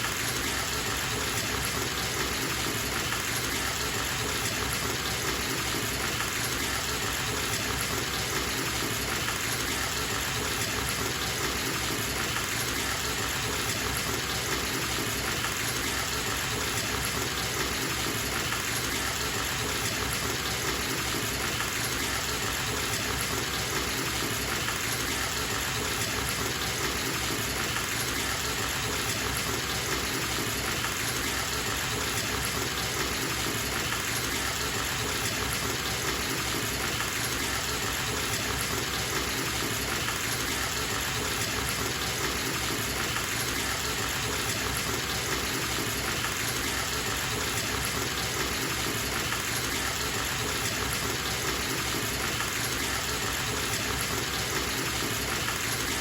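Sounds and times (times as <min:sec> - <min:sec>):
tap water gushing into tub: 0:00.0 - 0:56.0.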